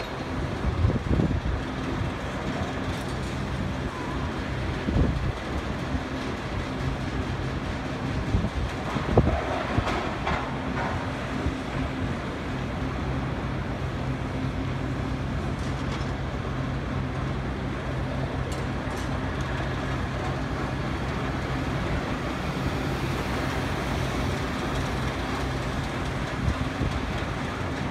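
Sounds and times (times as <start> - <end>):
diesel engines droning: 0.0 - 27.9.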